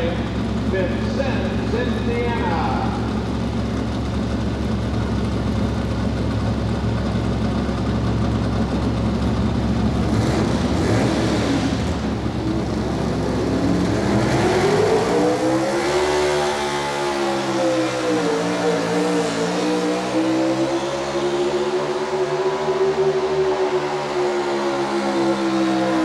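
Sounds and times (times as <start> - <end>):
pulling truck engine running hard: 0.0 - 26.0.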